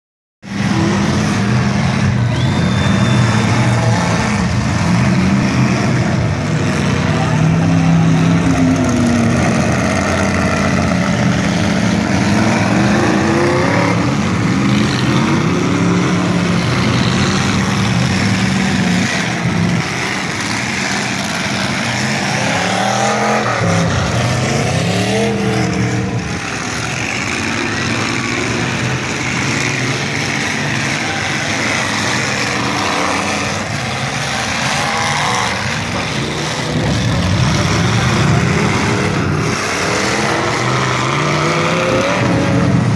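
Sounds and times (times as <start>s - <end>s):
car engines revving: 0.4s - 42.9s.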